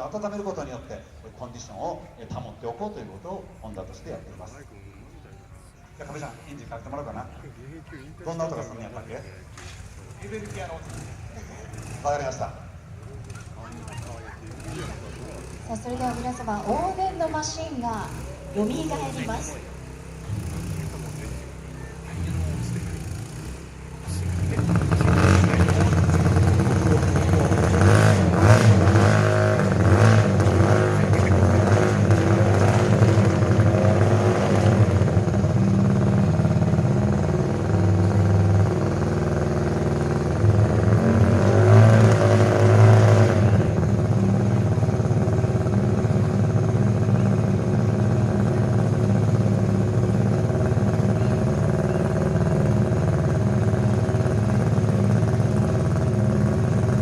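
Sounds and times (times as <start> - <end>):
racing engine revving and idling: 6.0 - 57.0.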